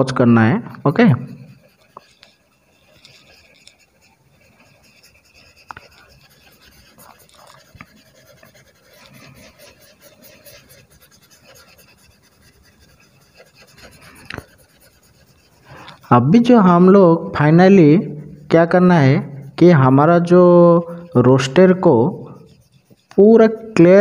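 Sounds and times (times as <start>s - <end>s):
blending tool rubbing on paper: 0.0s - 24.0s.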